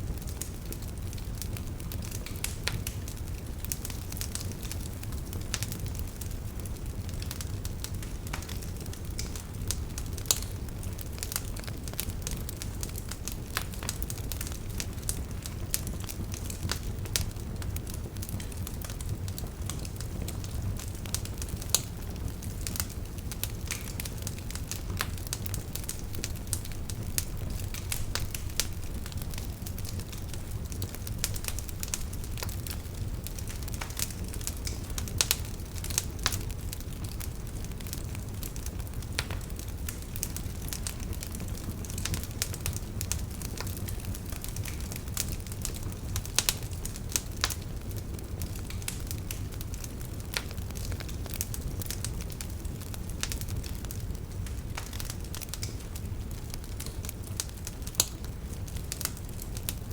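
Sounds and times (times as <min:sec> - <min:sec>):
burning wood popping: 0:00.0 - 0:59.9
low rumble of flames: 0:00.0 - 0:59.9
wood fire crackling: 0:00.0 - 0:59.9.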